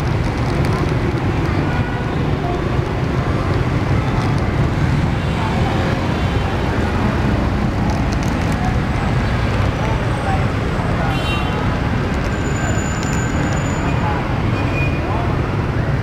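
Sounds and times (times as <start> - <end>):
motorbike and scooter engines passing: 0.0 - 16.0.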